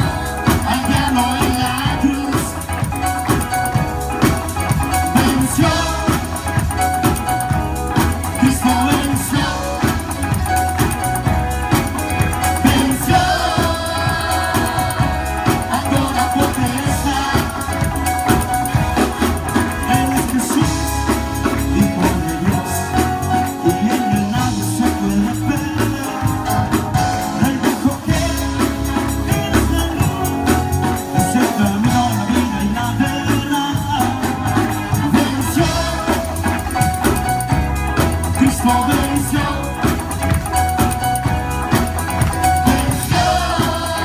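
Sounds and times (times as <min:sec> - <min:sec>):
drums: 0:00.0 - 0:44.0
electric bass: 0:00.0 - 0:44.0
keyboard: 0:00.0 - 0:44.0
people singing: 0:00.0 - 0:44.0
worship band playing: 0:00.0 - 0:44.0.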